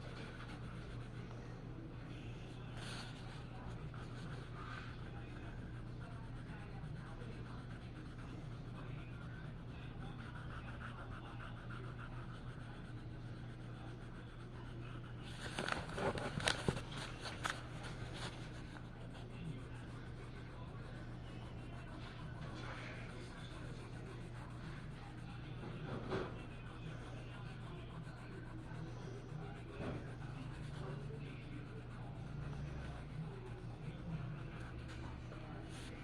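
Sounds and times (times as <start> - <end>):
colouring tool scratching paper: 0.0 - 1.5, 2.2 - 36.0
steady low hum: 0.0 - 36.0.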